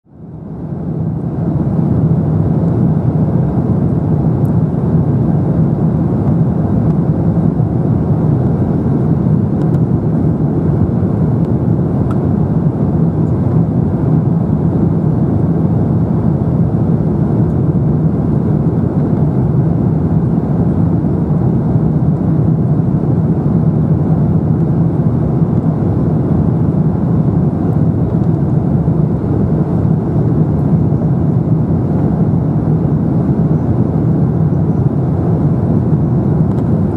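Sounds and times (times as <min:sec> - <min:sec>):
jet engines droning: 0:00.1 - 0:36.9
air rushing over fuselage: 0:00.5 - 0:36.9.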